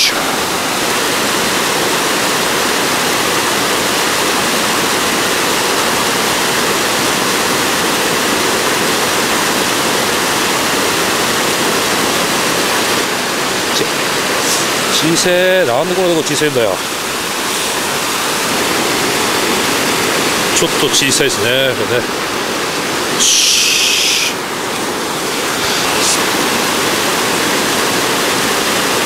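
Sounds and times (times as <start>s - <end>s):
water rushing over rock ledges: 0.0s - 29.0s.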